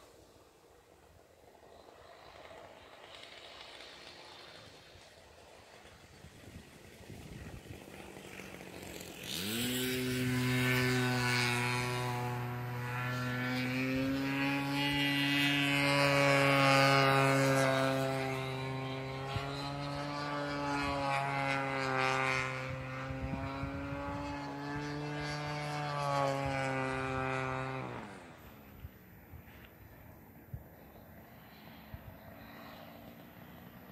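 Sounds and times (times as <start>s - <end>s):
model airplane engine revving: 0.0s - 33.9s.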